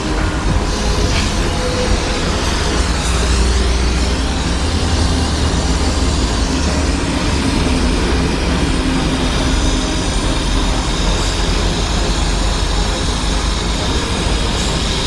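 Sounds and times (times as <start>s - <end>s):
loud mechanical rumble with hiss: 0.0s - 15.0s.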